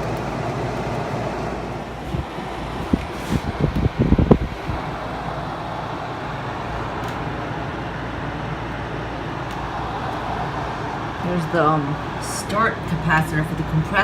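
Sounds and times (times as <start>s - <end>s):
air conditioner fan whooshing: 0.0s - 14.0s.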